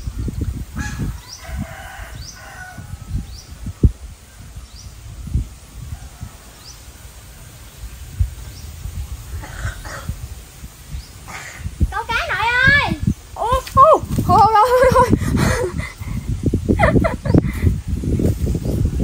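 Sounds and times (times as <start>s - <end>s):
birds chirping: 0.8s - 17.8s.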